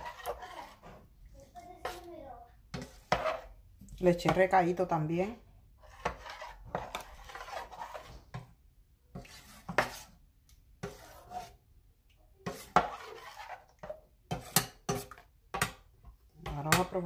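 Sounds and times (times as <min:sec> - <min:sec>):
spoon scraping metal pot: 0:00.0 - 0:02.1, 0:02.7 - 0:10.2, 0:10.8 - 0:11.6, 0:12.4 - 0:17.0.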